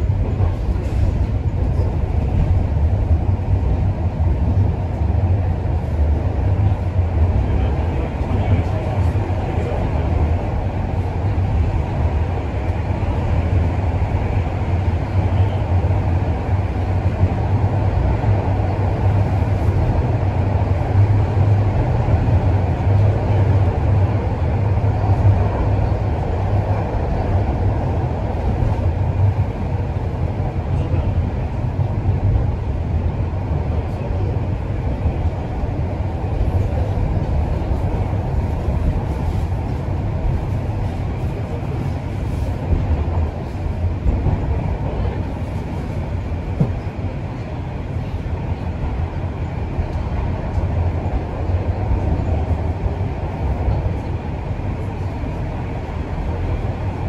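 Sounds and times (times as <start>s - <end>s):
subway train rumbling on rails: 0.0s - 57.0s.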